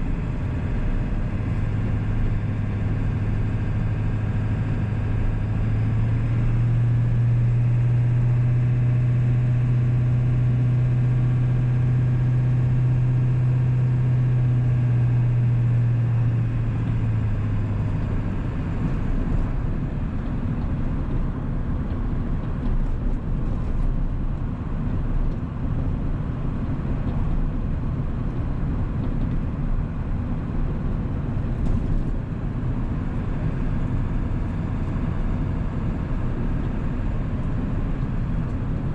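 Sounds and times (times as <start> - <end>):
diesel truck engine drone: 0.0 - 38.9
road noise: 0.0 - 38.9.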